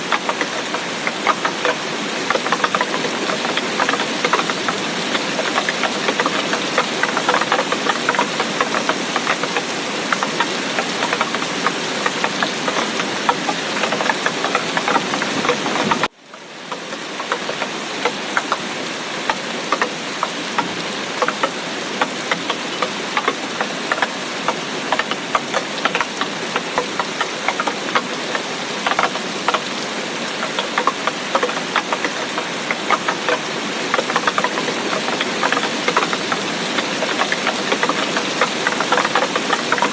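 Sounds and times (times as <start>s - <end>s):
raindrops pattering and clicking: 0.0s - 39.9s
steady hiss of rainfall: 0.0s - 39.9s.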